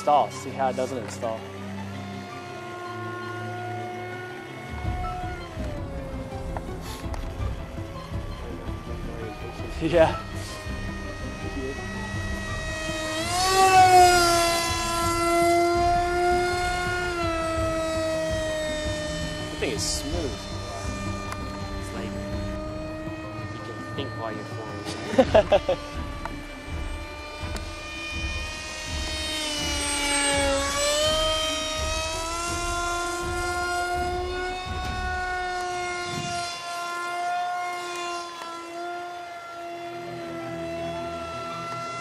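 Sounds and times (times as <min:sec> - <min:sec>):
model jet motor whining: 0:00.0 - 0:42.0.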